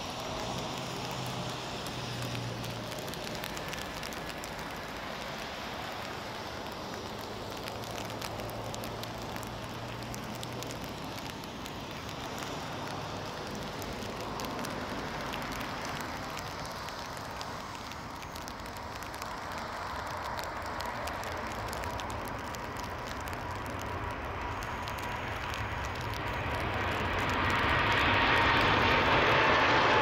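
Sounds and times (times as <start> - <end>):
distant jet engines at takeoff: 0.0 - 30.0.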